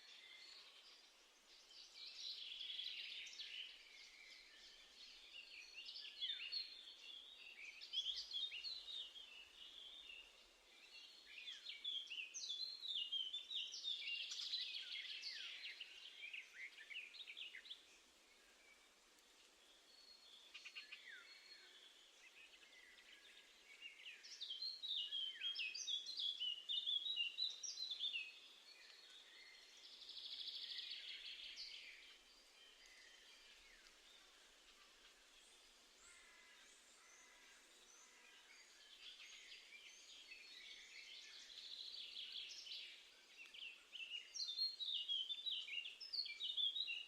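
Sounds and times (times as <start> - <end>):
songbirds chirping: 0.0 - 47.0
hissy bird chatter: 0.1 - 47.0.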